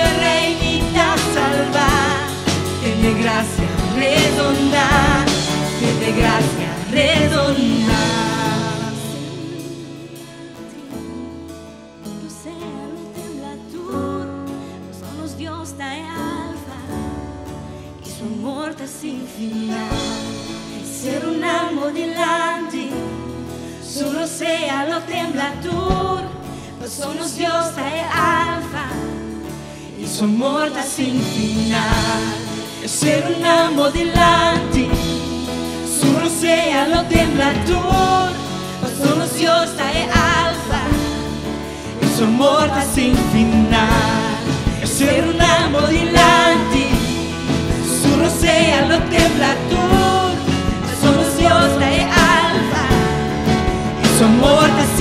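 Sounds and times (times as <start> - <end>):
worship band with drums and cymbals: 0.0 - 15.4, 16.2 - 55.0
woman singing lead vocal: 0.0 - 55.0.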